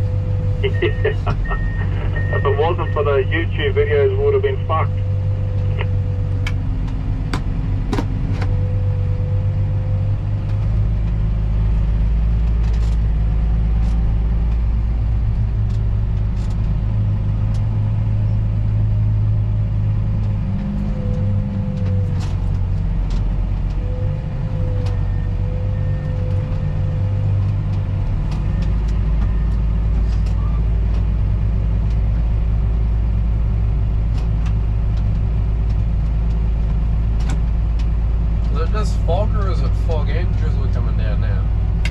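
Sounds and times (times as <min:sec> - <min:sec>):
diesel engine rumbling: 0:00.0 - 0:41.9.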